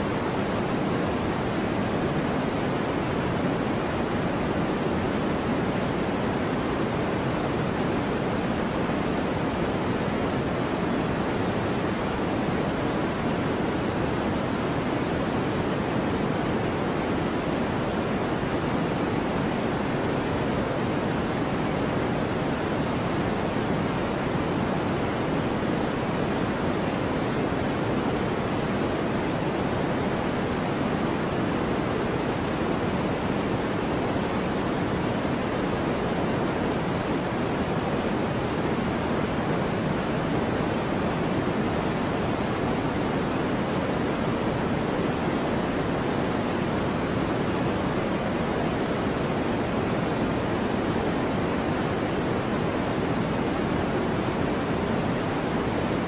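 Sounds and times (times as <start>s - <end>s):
low white noise: 0.0s - 56.0s.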